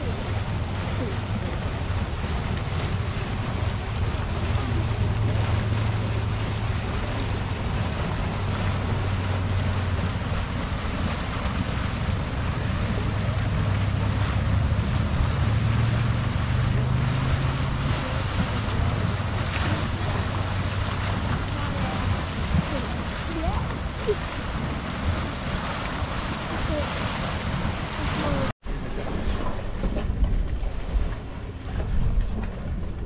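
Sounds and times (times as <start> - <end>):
steam vent rushing: 0.0 - 28.5
low rumble: 0.0 - 33.0
wind on microphone: 0.0 - 33.0.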